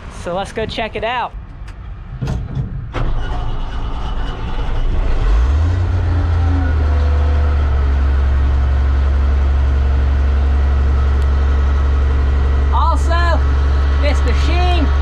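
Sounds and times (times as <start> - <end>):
engine rumbling and running: 1.4 - 15.0.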